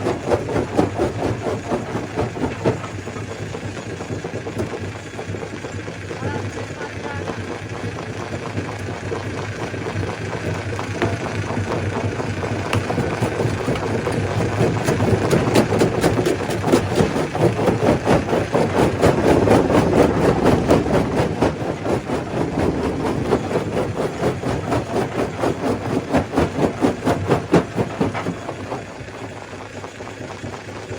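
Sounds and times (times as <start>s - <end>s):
stone crusher engine hum: 0.0s - 7.5s, 10.8s - 29.5s.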